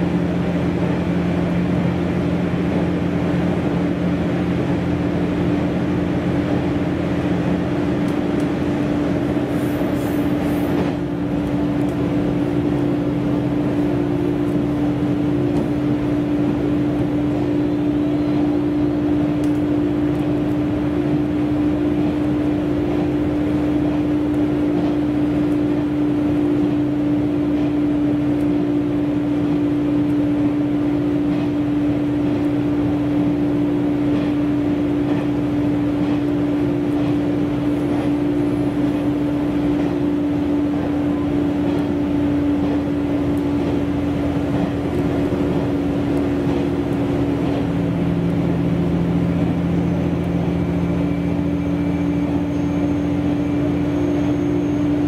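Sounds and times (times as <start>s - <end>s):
railcar engine drone: 0.0s - 55.0s
wheels rushing on rail: 0.0s - 55.0s.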